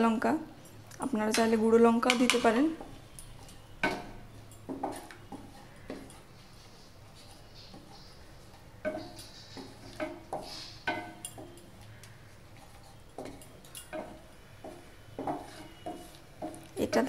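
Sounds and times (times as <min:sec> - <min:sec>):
spatula scraping pan: 0:02.2 - 0:17.0.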